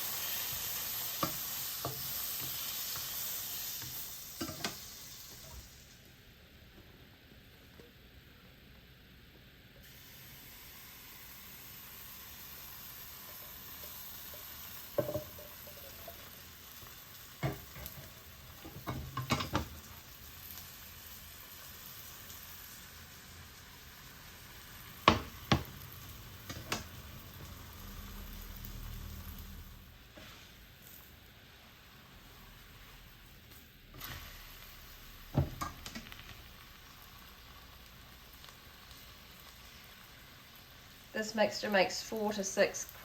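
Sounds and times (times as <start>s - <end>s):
batter sizzling in a pan: 0.0s - 43.0s.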